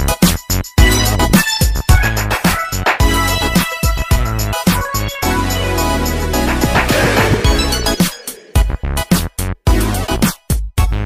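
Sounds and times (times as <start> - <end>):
electronic music with drum beat: 0.0 - 11.0
bass line: 0.8 - 10.2.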